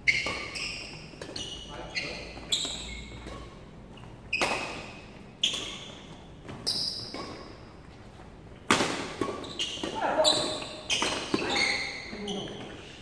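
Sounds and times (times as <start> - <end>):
shoes squeaking on court floor: 0.0 - 13.0
racket hitting shuttlecock: 0.1 - 7.8, 8.6 - 11.9.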